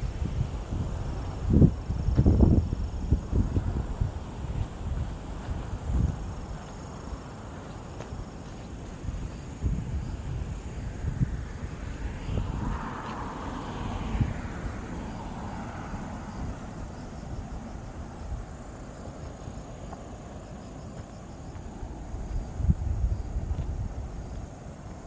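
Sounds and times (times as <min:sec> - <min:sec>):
broad rushing noise: 0:00.0 - 0:25.0
high insect drone: 0:00.0 - 0:25.0
low wind rumble: 0:00.0 - 0:25.0.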